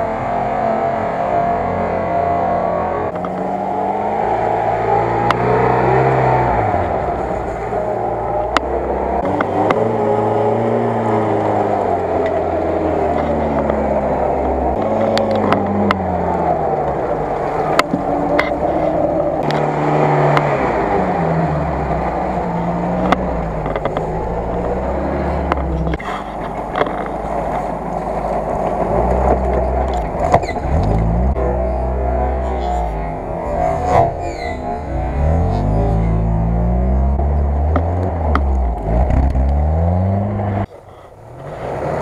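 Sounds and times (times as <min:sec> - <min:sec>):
engine revving under load: 0:00.0 - 0:42.0.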